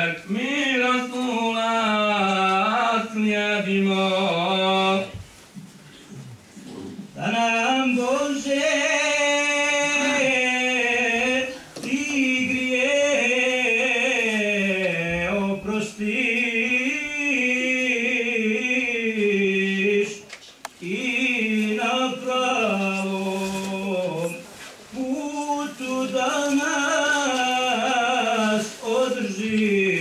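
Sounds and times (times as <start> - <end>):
man chanting: 0.0 - 5.2, 6.7 - 30.0.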